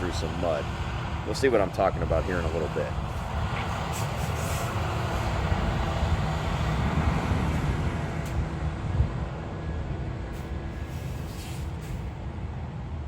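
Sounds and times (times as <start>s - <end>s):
farm machinery engine rumble: 0.0s - 13.0s.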